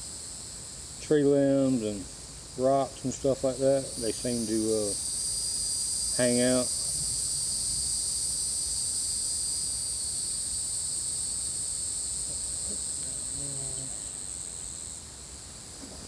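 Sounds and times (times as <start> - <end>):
shrill insect chorus: 0.0 - 16.0.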